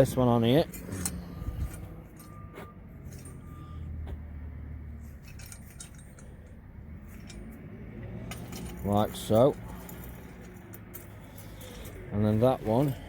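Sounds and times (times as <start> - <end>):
faint low engine hum: 0.0 - 13.0.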